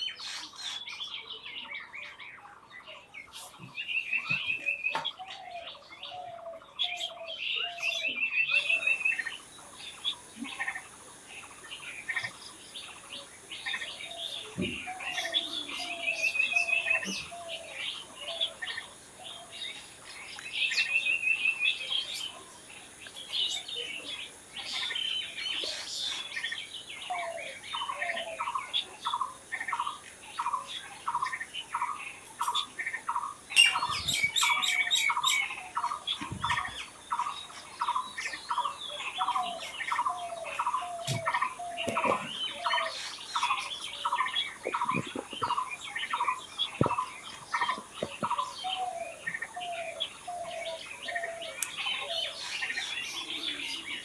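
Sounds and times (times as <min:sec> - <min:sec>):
wild birds chirping and singing: 0:00.0 - 0:54.0
steady high hiss: 0:06.7 - 0:54.0.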